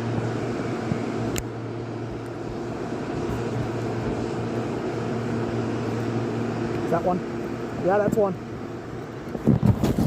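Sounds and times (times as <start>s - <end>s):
low motor drone: 0.0s - 10.0s.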